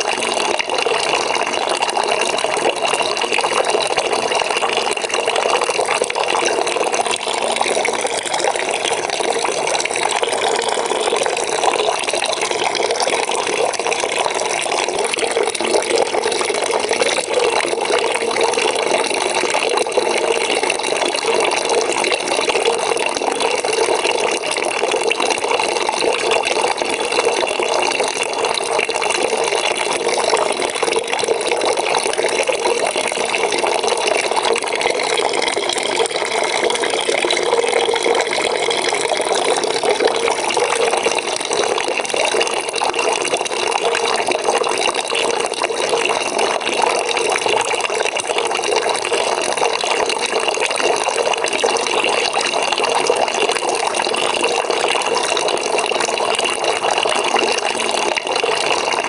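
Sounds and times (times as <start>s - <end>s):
water pouring into a bucket: 0.0s - 59.0s.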